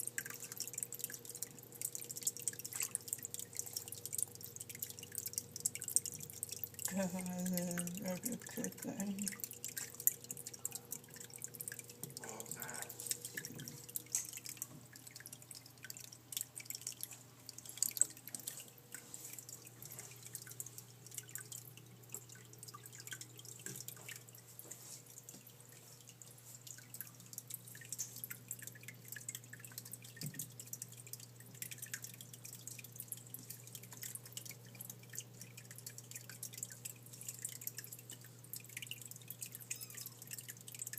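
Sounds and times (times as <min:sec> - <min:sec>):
steady low hum: 0:00.0 - 0:39.7
water dripping and splashing: 0:00.0 - 0:40.9.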